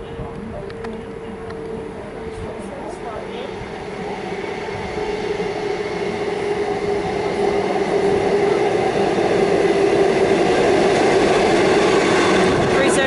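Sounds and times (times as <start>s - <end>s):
electric train arriving: 0.0s - 13.0s.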